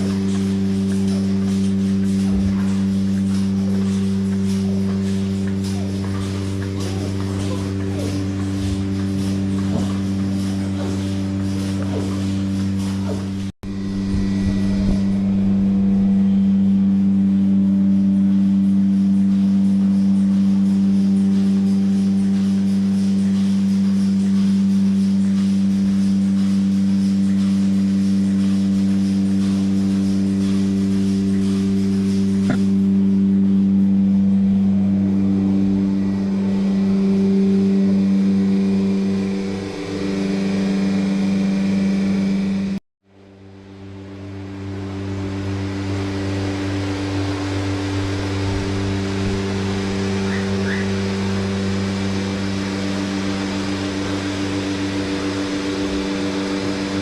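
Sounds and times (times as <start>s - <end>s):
low drone of held tones: 0.0s - 57.0s
machine humming: 0.0s - 57.0s.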